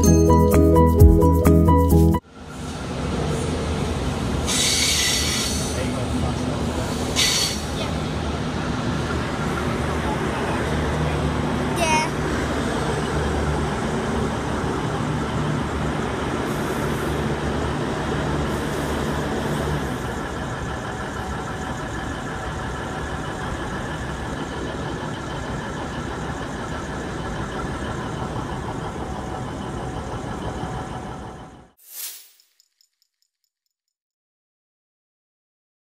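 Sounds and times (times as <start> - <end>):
diesel train engine droning: 0.0 - 31.8.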